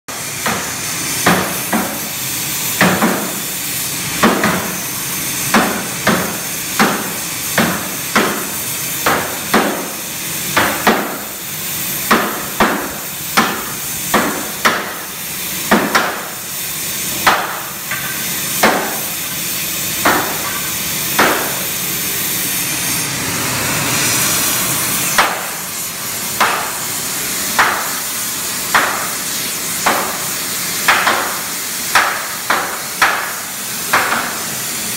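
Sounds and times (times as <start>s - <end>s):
sledgehammers striking hot metal: 0.1s - 23.0s, 24.1s - 34.9s
steady hiss: 0.1s - 34.9s.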